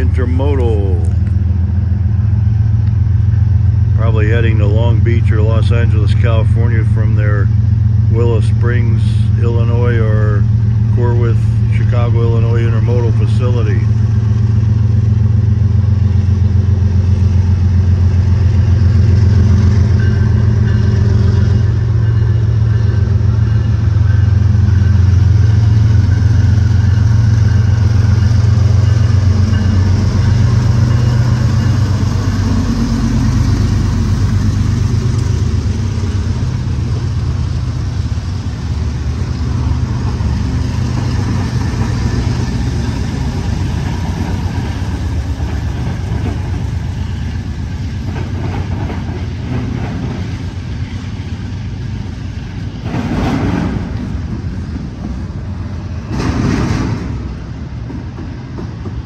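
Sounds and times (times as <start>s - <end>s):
diesel locomotives passing: 0.0s - 59.0s.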